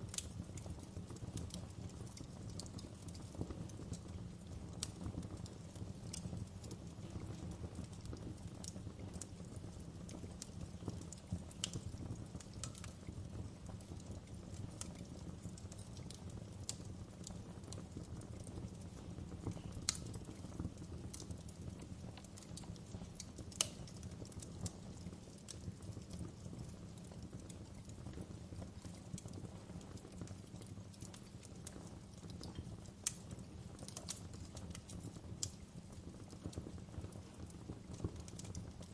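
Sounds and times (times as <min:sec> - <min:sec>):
low rumble of flame: 0:00.0 - 0:38.9
wood fire crackling and popping: 0:00.0 - 0:38.9.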